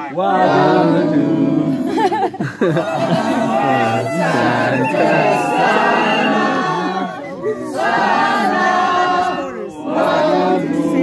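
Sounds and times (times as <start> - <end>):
crowd singing and chanting: 0.0 - 11.0.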